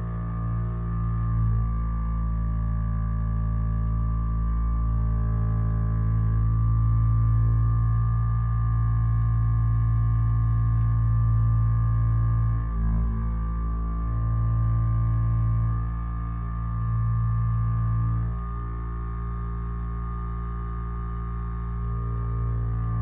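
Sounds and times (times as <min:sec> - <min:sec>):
vibrating roller motor humming: 0:00.0 - 0:23.0.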